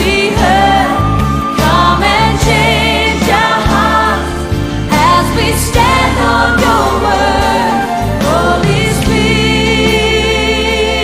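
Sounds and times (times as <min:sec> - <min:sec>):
worship band playing: 0:00.0 - 0:11.0.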